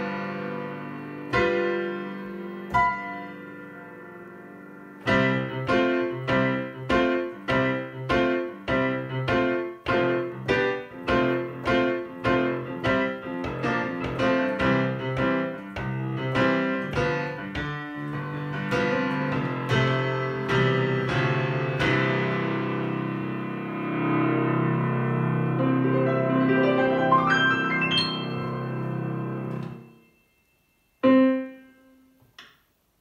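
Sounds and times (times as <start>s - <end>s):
digital piano chords: 0.0s - 32.8s.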